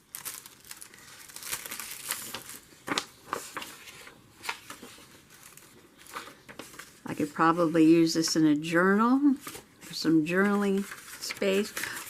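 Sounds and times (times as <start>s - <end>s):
paper rustling and crinkling: 0.0s - 8.4s, 9.2s - 12.0s.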